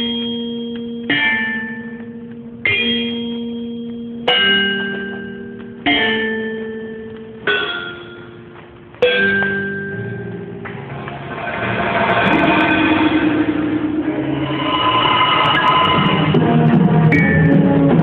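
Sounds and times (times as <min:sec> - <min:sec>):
bells playing struck chords: 0:00.0 - 0:18.0.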